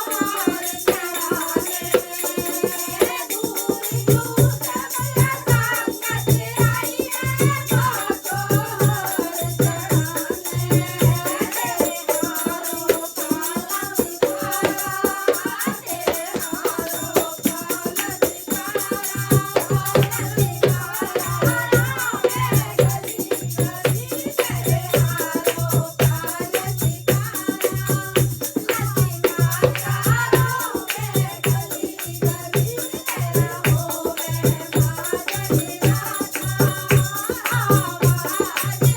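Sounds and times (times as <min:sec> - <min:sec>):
fast jingling percussion: 0:00.0 - 0:38.9.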